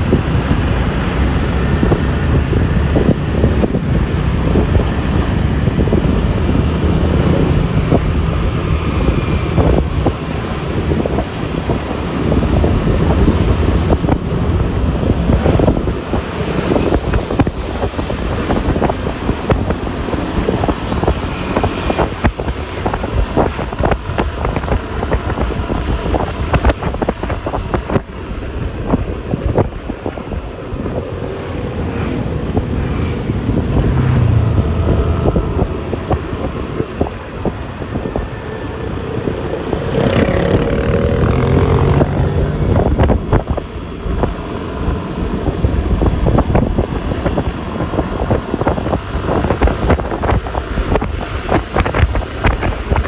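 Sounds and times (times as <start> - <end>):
passing vehicle engines: 0.0 - 53.0
steady traffic hum: 0.0 - 53.0
wind buffeting microphone: 0.0 - 53.0.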